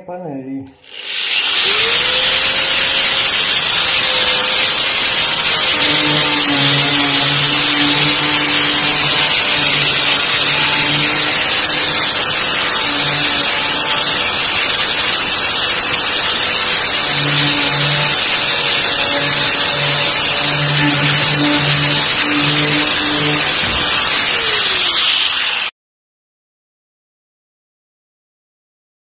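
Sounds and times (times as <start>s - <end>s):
grinder motor hum: 0.8s - 25.7s
sanding disc hissing on wood: 0.8s - 25.7s.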